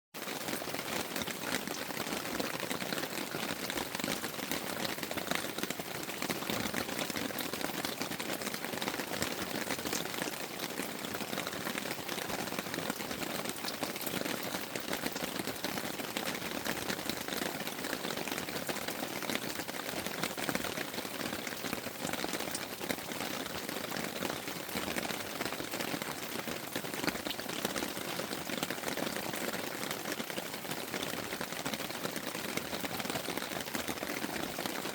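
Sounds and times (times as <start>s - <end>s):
rain on tent fabric: 0.1s - 34.9s.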